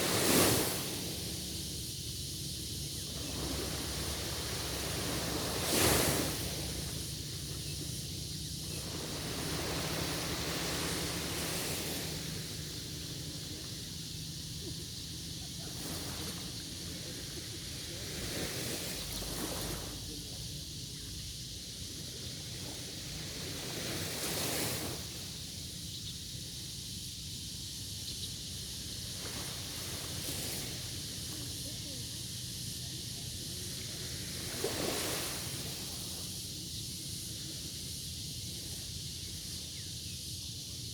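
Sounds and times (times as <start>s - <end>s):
sea waves washing onto beach: 0.0s - 20.8s, 21.9s - 25.6s, 28.6s - 39.5s.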